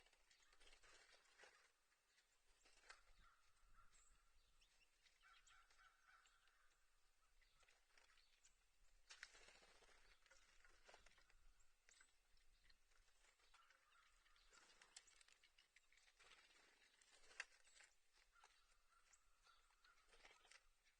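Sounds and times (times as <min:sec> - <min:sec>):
distant bird calls: 0:00.0 - 0:20.9.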